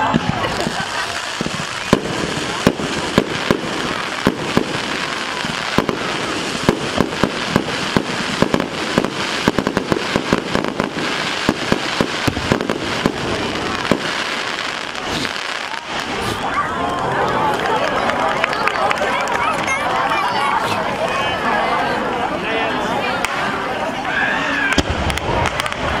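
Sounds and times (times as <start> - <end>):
fireworks bangs and crackles: 0.0 - 21.3, 23.2 - 26.0.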